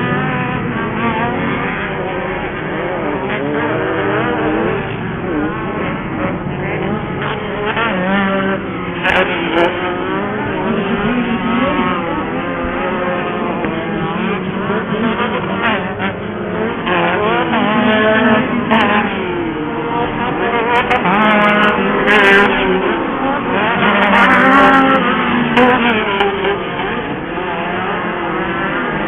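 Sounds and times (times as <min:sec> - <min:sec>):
race buggy engines revving: 0:00.0 - 0:29.0.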